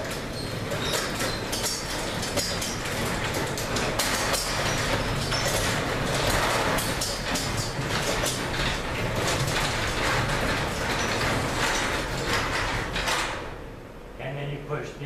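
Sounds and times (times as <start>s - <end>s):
garage door popping and jerking: 0.0s - 13.8s
garage door opener motor running: 0.0s - 14.0s.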